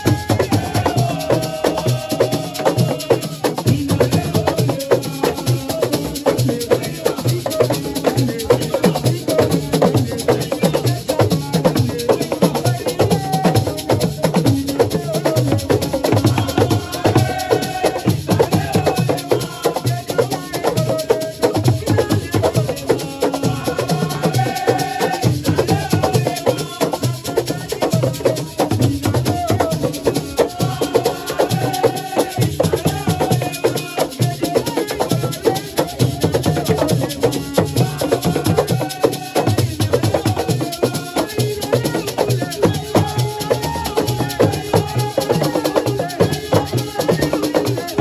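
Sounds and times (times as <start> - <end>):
fast percussion rhythm: 0.0 - 48.0
voices singing: 0.0 - 48.0.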